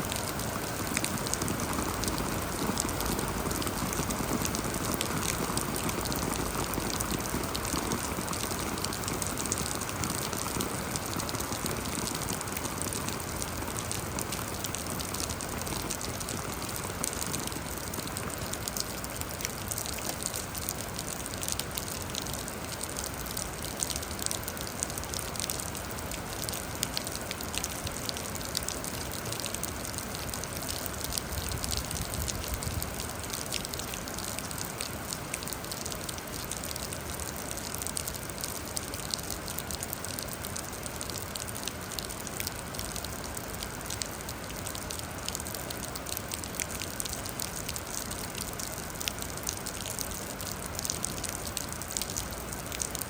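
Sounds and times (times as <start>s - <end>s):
raindrops pattering: 0.0s - 53.0s
steady rain falling: 0.0s - 53.0s.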